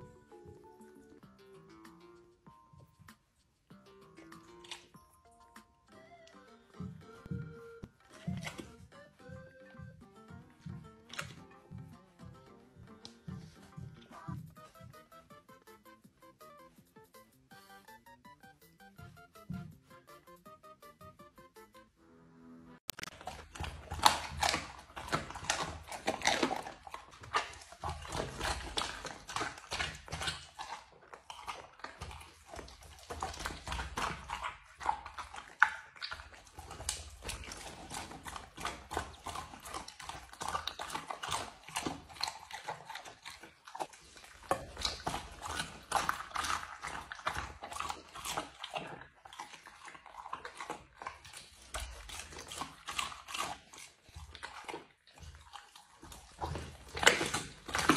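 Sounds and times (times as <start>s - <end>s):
dog chewing with crunches: 0.0s - 15.4s, 22.9s - 57.9s.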